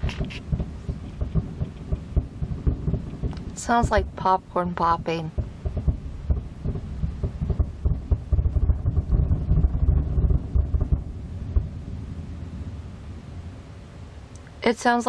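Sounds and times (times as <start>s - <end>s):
fireworks crackling: 0.0s - 12.8s.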